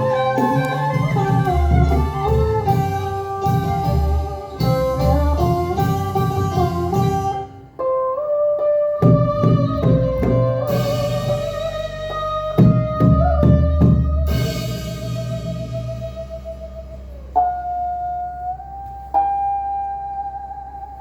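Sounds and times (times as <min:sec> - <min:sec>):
steady low beat: 0:00.0 - 0:07.8, 0:09.0 - 0:21.0
plucked-string chords: 0:00.0 - 0:21.0
sustained melody line: 0:00.0 - 0:21.0.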